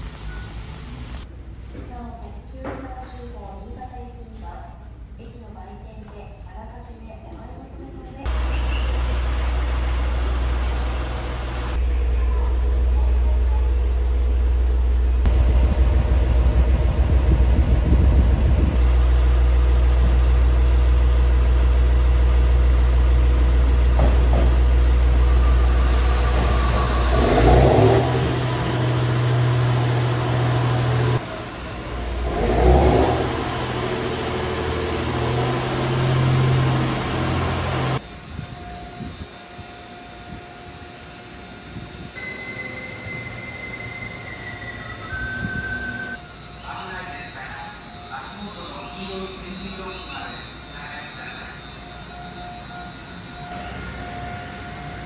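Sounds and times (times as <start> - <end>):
train engines droning: 8.0 - 55.0.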